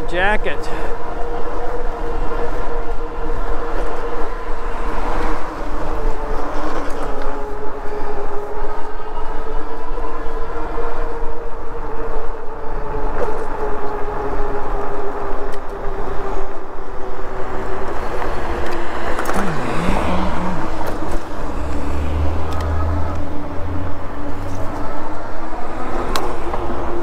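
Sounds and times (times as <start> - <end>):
wind and road noise: 0.0 - 27.0
electric motor whine: 0.9 - 27.0.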